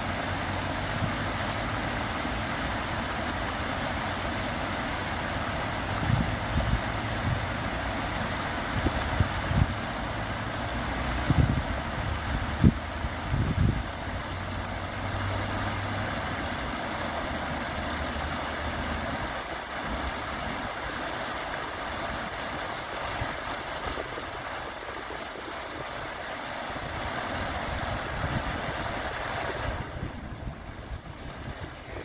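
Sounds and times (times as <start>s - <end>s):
fountain jets splashing: 0.0s - 32.0s.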